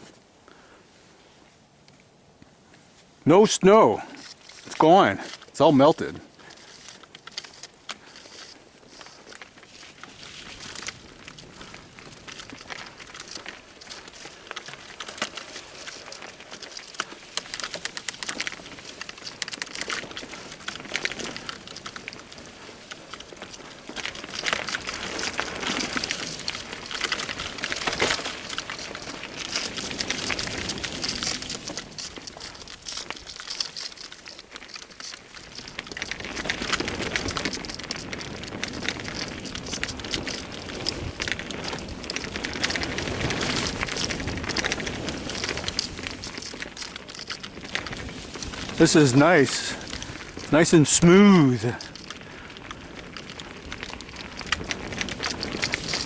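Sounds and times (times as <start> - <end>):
bicycle tyres crunching on gravel: 2.7 - 56.0.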